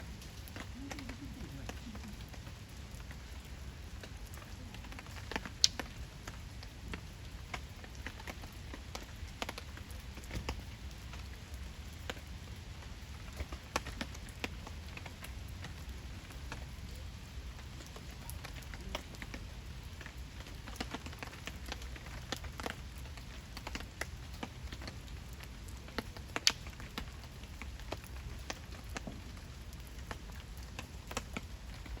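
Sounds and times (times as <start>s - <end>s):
campfire crackling: 0.0s - 32.0s
fire snaps: 0.0s - 32.0s
low rumble of flames: 0.0s - 32.0s.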